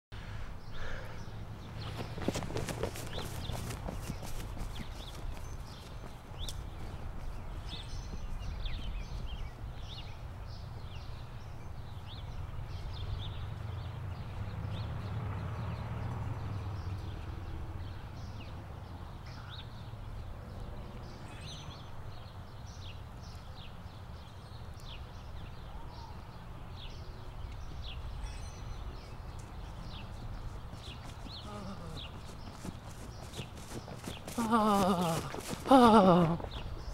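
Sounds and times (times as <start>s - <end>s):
small birds chirping: 0.3s - 36.9s.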